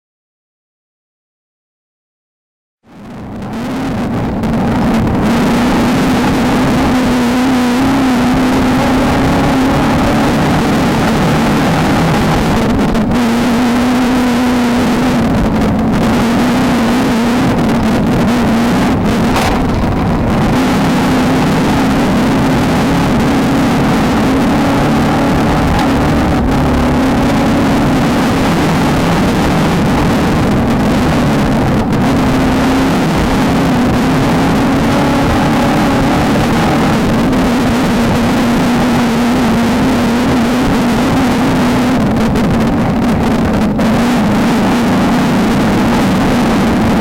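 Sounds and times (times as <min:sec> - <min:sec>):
dense rush of noise: 0:02.8 - 0:47.0
race car engine running hard: 0:02.8 - 0:47.0.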